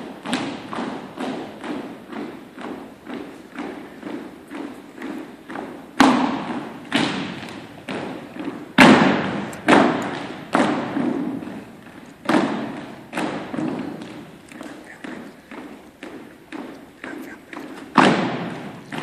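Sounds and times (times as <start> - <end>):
feet stomping on wooden floor: 0.0 - 19.0.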